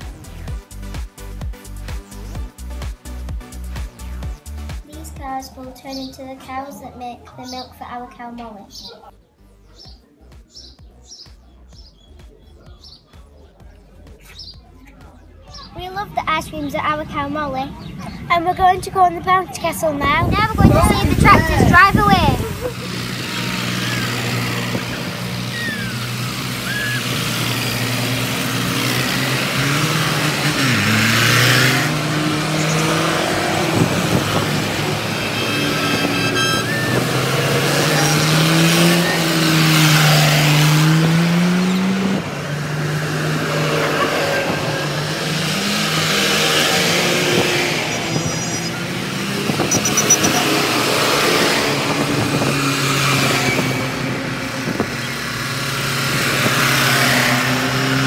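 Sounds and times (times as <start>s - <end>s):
tractor engines passing: 0.0s - 58.0s.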